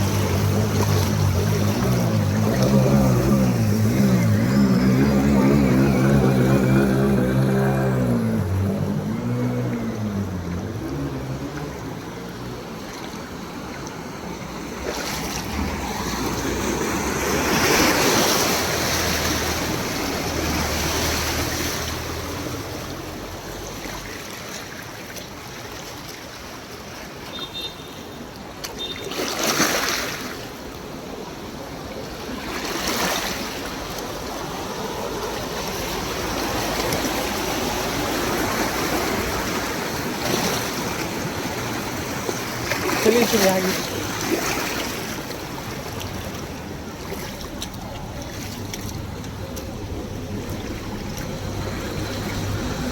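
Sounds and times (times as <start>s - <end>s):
traffic on flooded road: 0.0s - 52.9s
vehicles whooshing through water: 0.0s - 52.9s.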